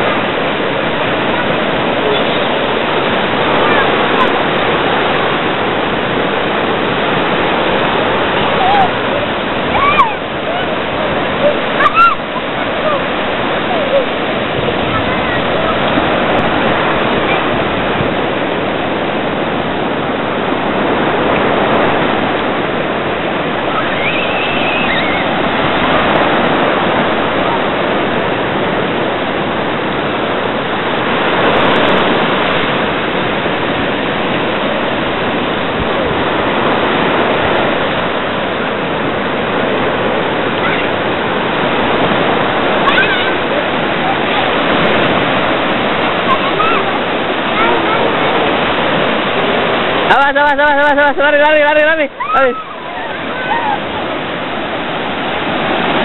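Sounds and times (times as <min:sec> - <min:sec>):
surf breaking on beach: 0:00.0 - 0:56.0.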